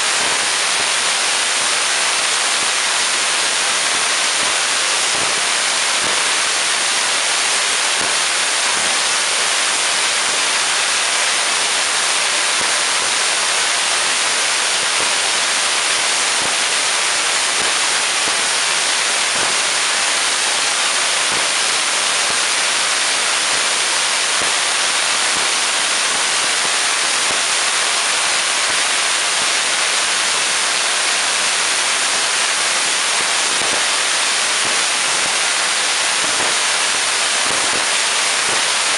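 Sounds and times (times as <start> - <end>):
tesla coil sparks sizzling: 0.0 - 38.9.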